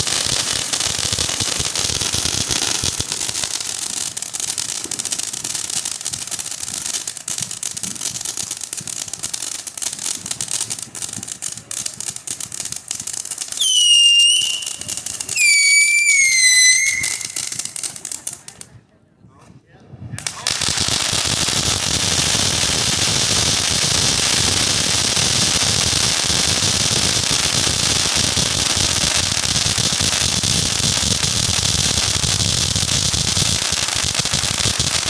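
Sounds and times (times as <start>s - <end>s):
firework whistles: 0.0s - 6.8s, 7.4s - 18.3s, 20.2s - 35.0s
firework crackling pops: 0.0s - 18.8s, 20.1s - 35.0s.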